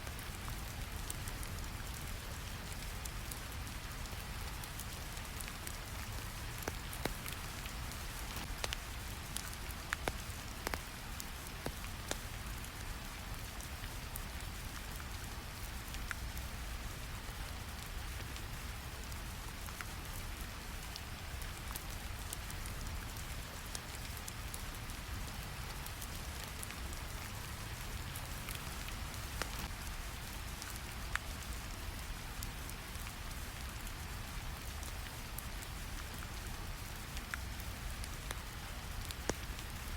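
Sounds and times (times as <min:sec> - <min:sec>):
fire crackling: 0:00.0 - 0:15.1, 0:15.8 - 0:39.9
steady rain: 0:00.0 - 0:39.9.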